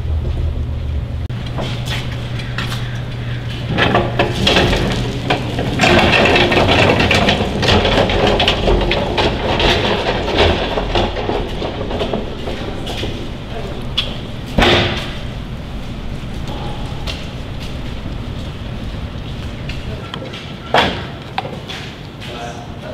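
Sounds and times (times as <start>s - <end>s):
low steady hum: 0.0s - 20.7s
plastic bin rolling over bricks: 1.4s - 20.0s.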